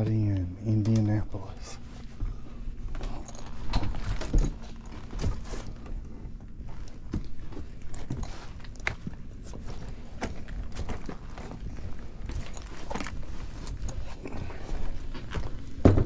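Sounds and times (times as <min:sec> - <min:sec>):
steady low hum: 0:00.0 - 0:16.0
person crawling with knocks and thumps: 0:01.8 - 0:16.0.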